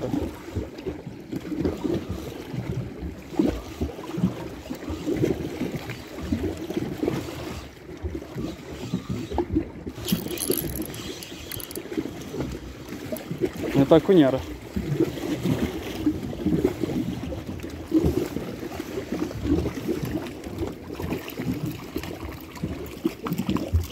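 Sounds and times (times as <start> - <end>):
small waves lapping: 0.0 - 23.9.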